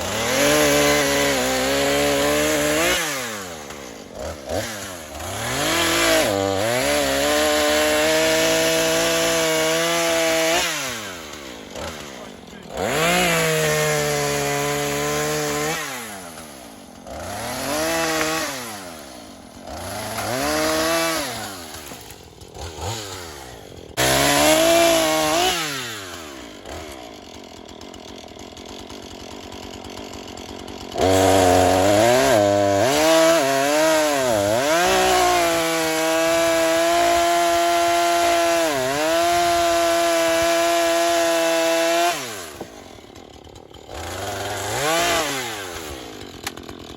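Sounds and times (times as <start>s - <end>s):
chainsaw cutting logs: 0.0s - 46.9s.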